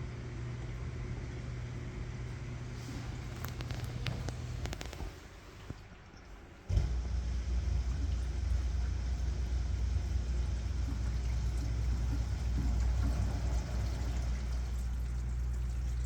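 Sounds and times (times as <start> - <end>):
dishwasher drain pump humming: 0.0 - 16.0.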